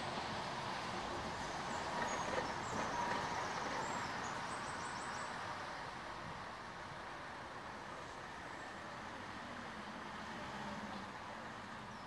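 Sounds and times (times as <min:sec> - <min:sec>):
distant road traffic hum: 0:00.0 - 0:12.0.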